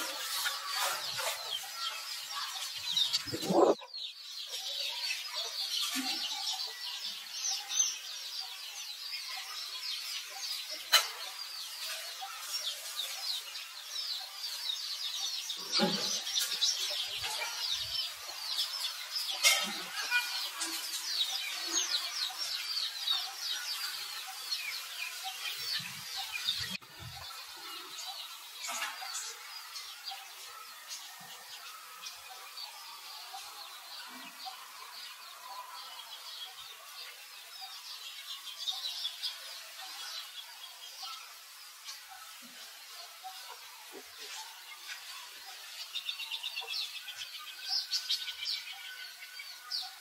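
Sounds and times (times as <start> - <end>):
many birds chirping: 0.0 - 50.0.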